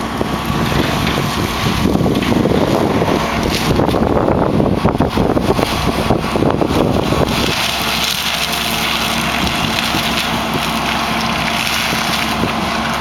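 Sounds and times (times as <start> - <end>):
excavator mulcher running: 0.0 - 13.0.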